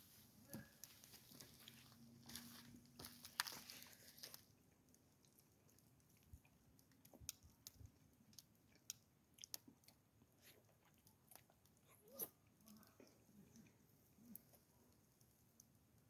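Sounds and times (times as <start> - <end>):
faint chewing crunches: 0.0 - 16.0.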